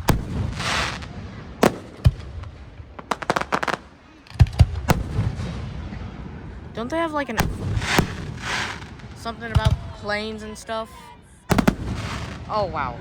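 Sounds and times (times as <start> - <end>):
fireworks bangs: 0.0 - 10.7, 11.4 - 13.0
fireworks crackling: 0.0 - 10.7, 11.4 - 13.0.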